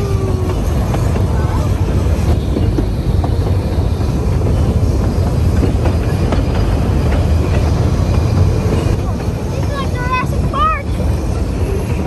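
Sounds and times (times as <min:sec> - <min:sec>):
train carriages rumbling on rails: 0:00.0 - 0:12.0.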